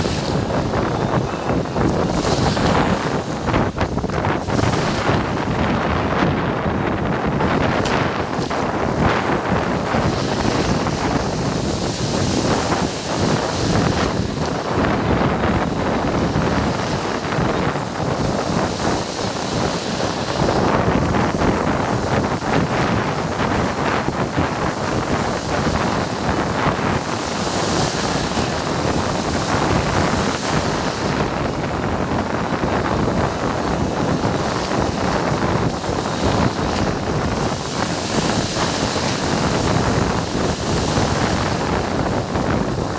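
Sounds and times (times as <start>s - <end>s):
sea waves washing on shore: 0.0s - 42.9s
wind buffeting microphone: 0.0s - 42.9s.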